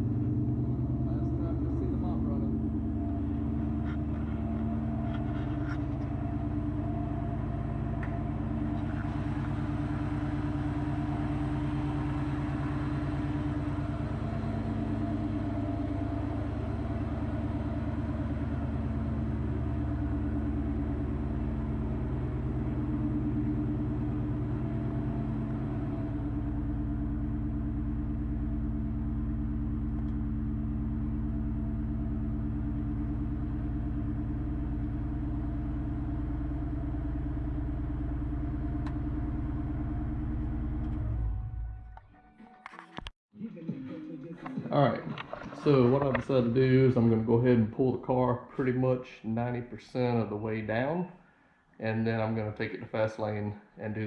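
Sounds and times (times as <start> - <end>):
car engine idling: 0.0 - 42.5, 44.4 - 54.0.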